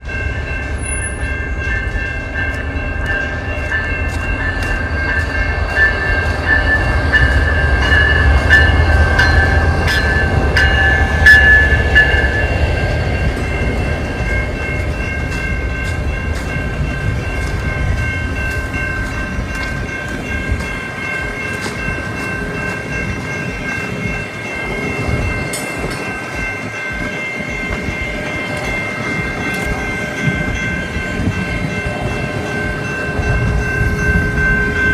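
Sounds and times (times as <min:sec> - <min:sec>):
train rumble: 0:00.0 - 0:34.9.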